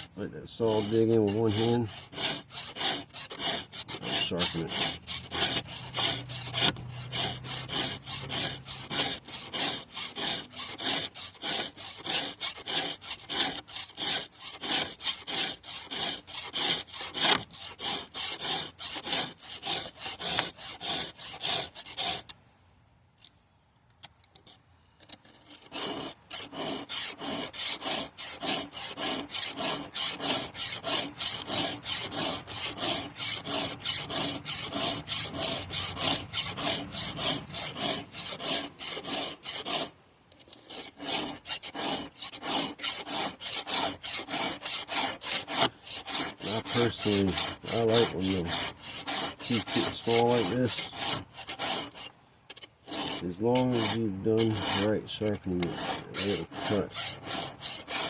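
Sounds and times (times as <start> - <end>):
hand file rasping on chainsaw chain: 0.0 - 22.4, 25.1 - 58.0.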